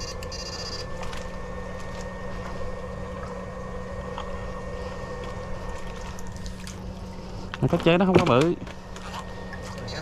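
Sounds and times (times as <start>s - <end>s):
small motor humming: 0.0s - 10.0s.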